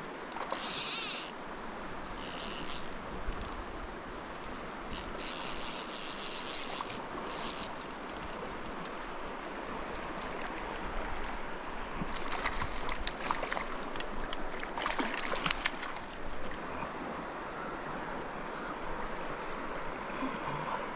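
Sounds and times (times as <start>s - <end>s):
stream water over rocks: 0.0s - 20.9s.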